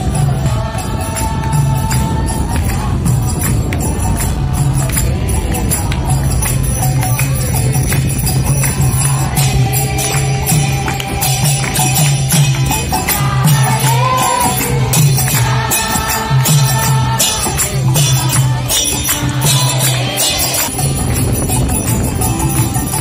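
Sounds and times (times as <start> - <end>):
hand cymbals jingling: 0.0 - 23.0
voices singing: 0.0 - 23.0.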